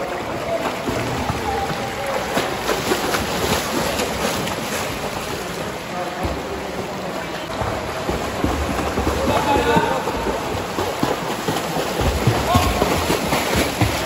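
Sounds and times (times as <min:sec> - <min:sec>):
pool water splashing: 0:00.0 - 0:14.0.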